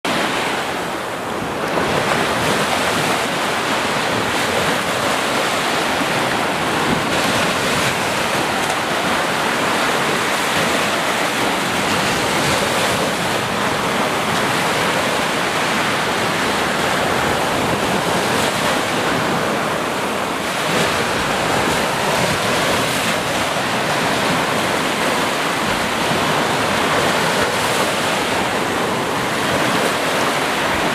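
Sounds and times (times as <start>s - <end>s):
waves breaking on a sandy beach: 0.1s - 30.9s.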